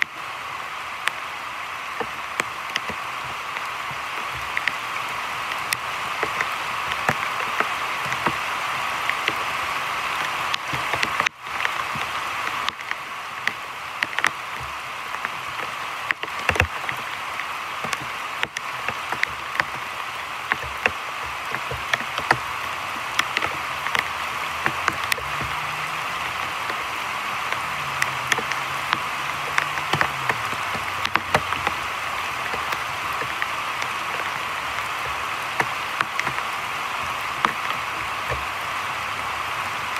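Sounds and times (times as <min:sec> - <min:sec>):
heavy rain on creek water: 0:00.0 - 0:39.9.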